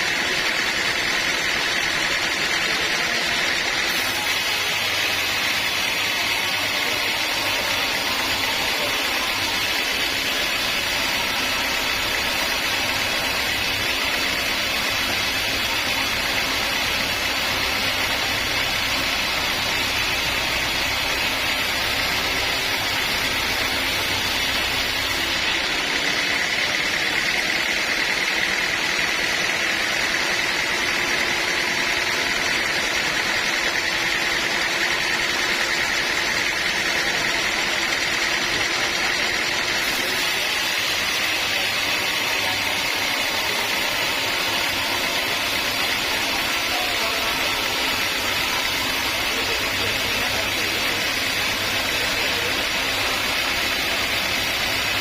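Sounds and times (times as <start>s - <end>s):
bandsaw sawmill running: 0.0s - 55.0s.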